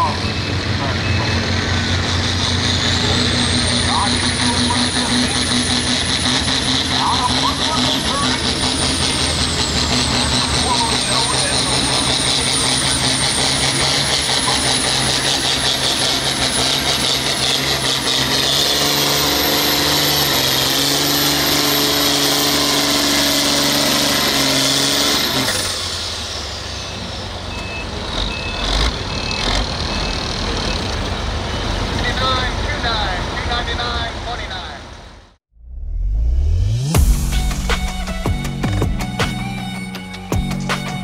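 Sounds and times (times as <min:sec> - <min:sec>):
diesel tractor engine at full throttle: 0:00.0 - 0:35.4, 0:36.9 - 0:41.0.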